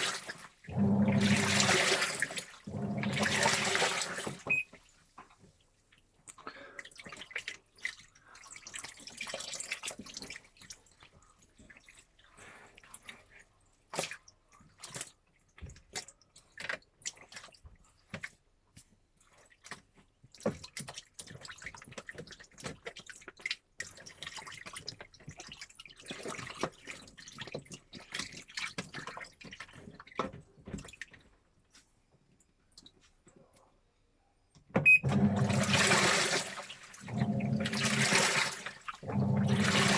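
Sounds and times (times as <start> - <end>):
water sloshing in washing machine: 0.0 - 5.6, 6.8 - 18.5, 19.2 - 31.4, 34.8 - 39.9.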